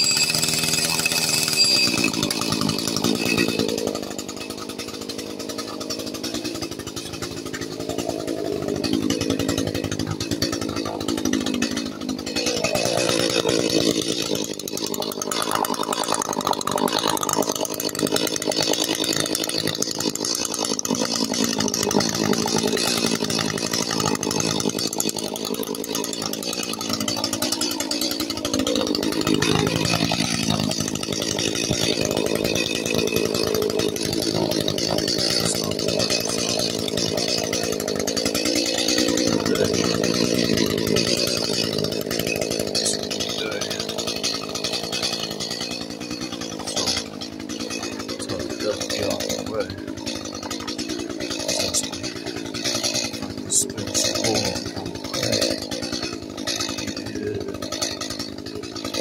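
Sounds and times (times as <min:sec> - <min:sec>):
chainsaw cutting at full throttle: 0:00.0 - 0:59.0.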